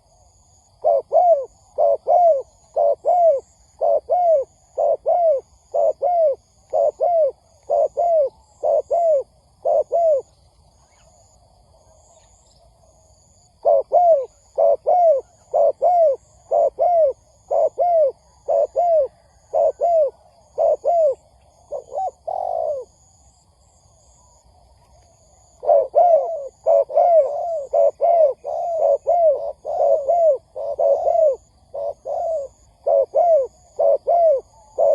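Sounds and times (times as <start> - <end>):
dove cooing: 0.0 - 10.3, 13.6 - 23.2, 24.9 - 34.9.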